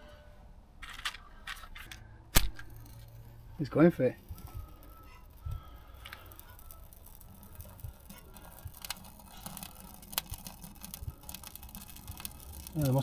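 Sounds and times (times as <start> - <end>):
kindling crackling in stove: 2.4 - 13.0.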